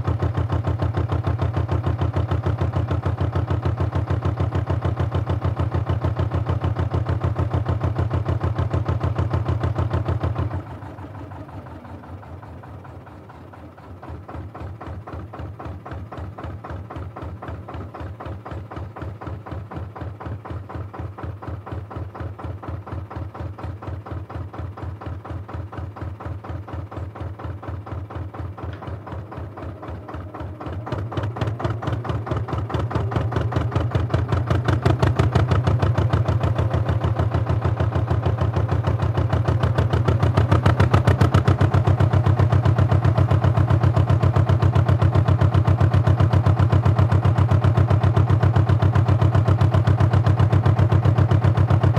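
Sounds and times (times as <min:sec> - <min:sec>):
boat diesel engine chugging: 0:00.0 - 0:51.9.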